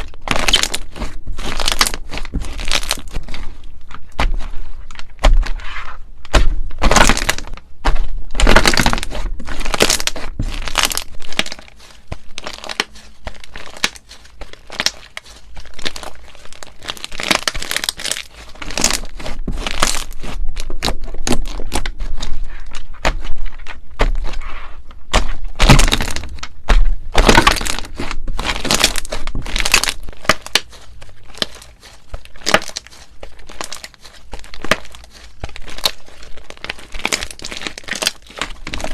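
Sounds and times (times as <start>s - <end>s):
slime crackling and popping: 0.0s - 38.9s.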